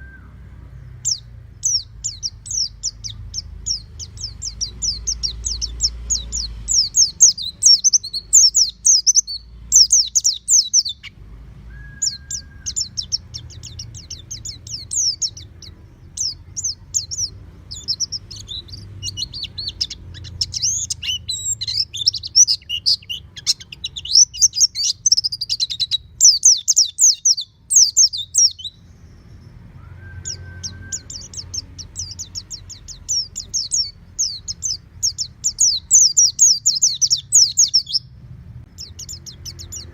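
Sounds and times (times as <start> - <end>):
bird twittering: 0.0 - 38.1, 38.7 - 39.9.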